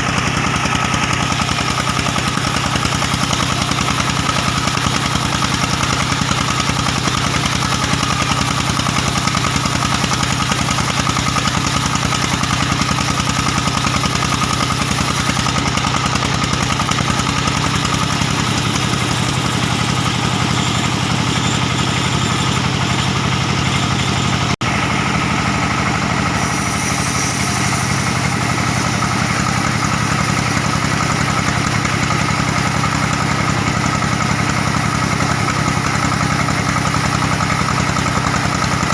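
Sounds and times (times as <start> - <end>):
diesel engine driving band saw: 0.0 - 38.9.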